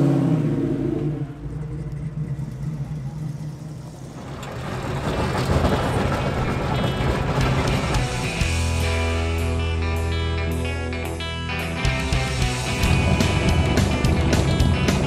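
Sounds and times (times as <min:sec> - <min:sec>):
car engine rumbling: 0:00.0 - 0:09.8, 0:12.1 - 0:15.0.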